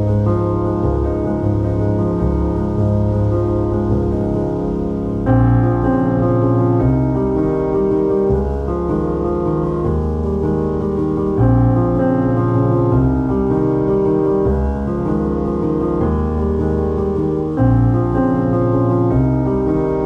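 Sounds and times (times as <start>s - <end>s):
instrumental music with sustained chords: 0.0s - 20.0s.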